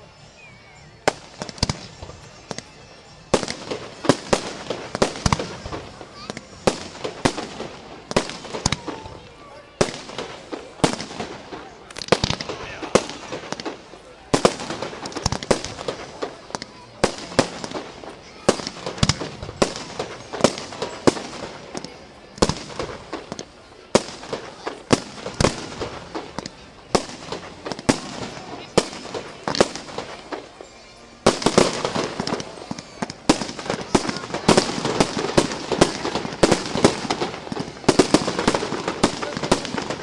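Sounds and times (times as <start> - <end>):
fireworks bangs and crackles: 1.0 - 40.0.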